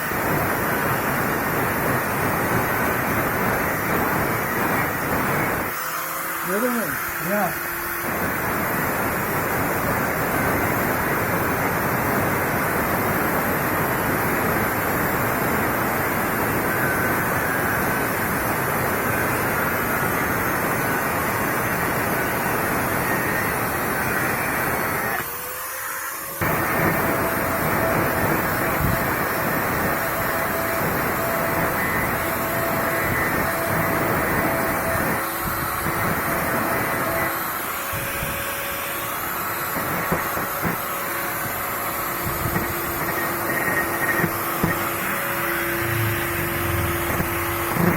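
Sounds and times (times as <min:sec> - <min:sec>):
angle grinder cutting metal: 0:00.0 - 0:47.9.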